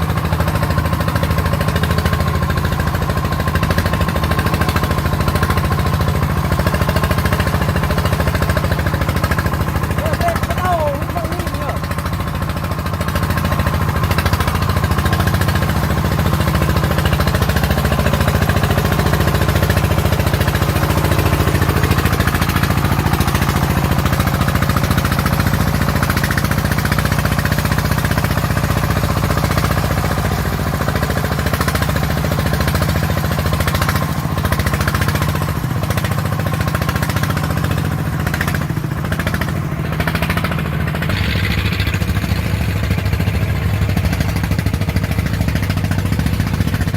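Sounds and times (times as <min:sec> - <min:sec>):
diesel engine chugging: 0:00.0 - 0:46.9.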